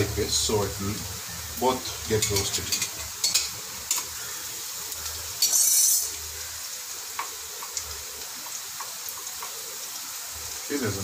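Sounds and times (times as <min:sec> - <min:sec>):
paste sizzling in hot oil: 0:00.0 - 0:11.0.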